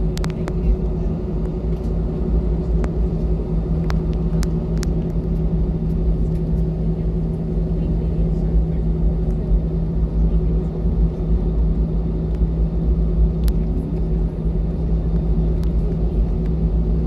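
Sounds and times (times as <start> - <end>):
airplane engine and airflow rumble: 0.0 - 17.0
constant low hum: 0.0 - 17.0.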